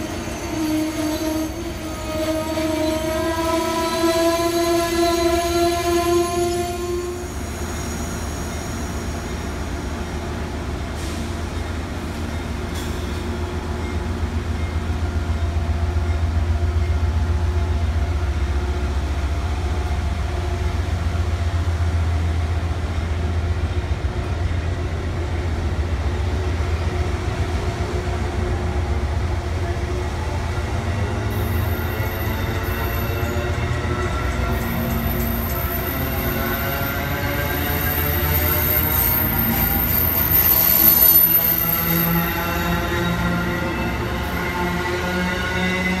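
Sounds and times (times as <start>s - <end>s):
train coaches rumbling by: 0.0s - 46.0s.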